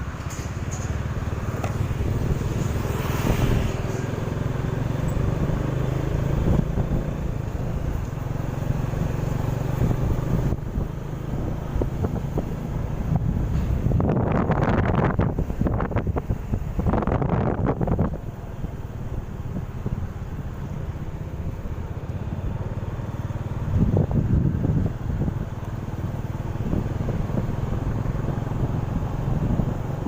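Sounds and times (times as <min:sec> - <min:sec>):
road traffic noise: 0:00.0 - 0:30.0
vehicle engine running: 0:00.0 - 0:30.0.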